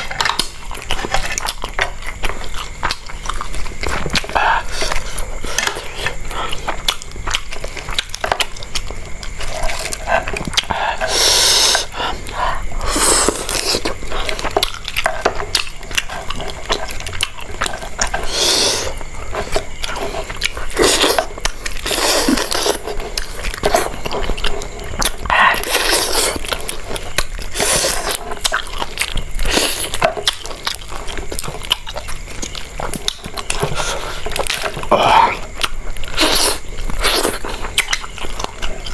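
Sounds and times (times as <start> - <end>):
close-miked biting and chewing: 0.0 - 38.9.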